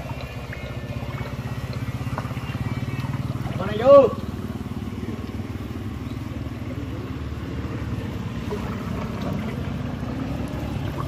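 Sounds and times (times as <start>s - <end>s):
engine running with pulsing throb: 0.0s - 11.0s.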